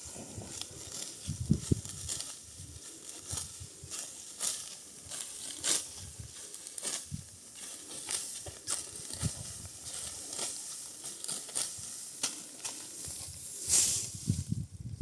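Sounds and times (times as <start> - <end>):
wheat stalks crackling and rustling: 0.0 - 15.0.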